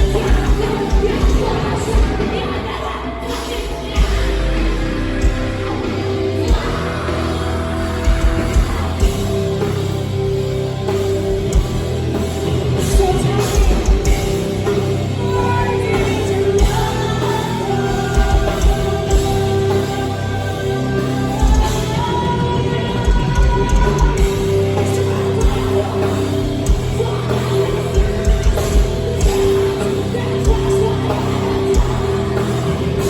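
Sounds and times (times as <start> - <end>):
live metal band playing: 0.0 - 33.0.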